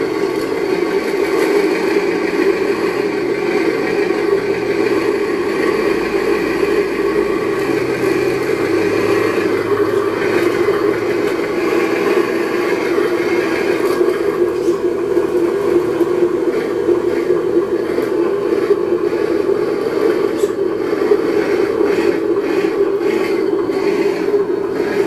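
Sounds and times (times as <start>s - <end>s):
simulated engine through small speaker: 0.0s - 25.0s.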